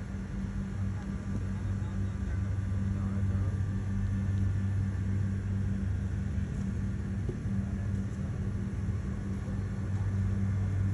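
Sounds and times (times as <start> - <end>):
machinery humming: 0.0 - 10.9.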